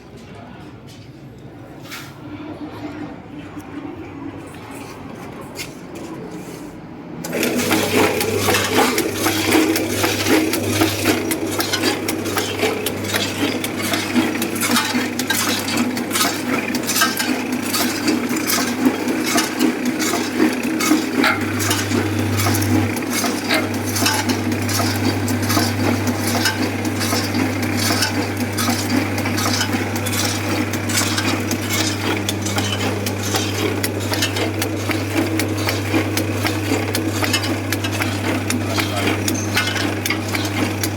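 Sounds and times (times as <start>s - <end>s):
packaging machine motor hum: 7.2s - 40.9s.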